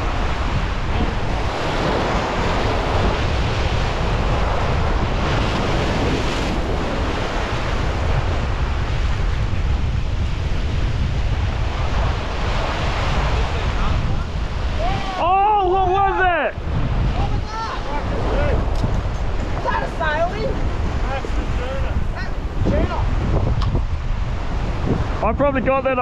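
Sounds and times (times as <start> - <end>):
sea surf breaking over rocks: 0.0 - 26.0
wind buffeting microphone: 0.0 - 26.0.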